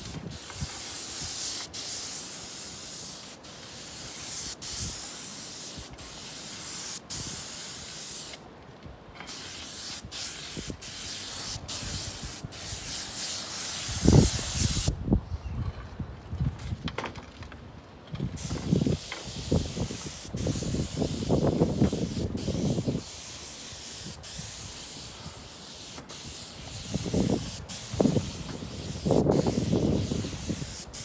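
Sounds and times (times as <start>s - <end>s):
paint spray gun hissing: 0.0s - 8.4s, 9.2s - 14.9s, 18.4s - 31.0s.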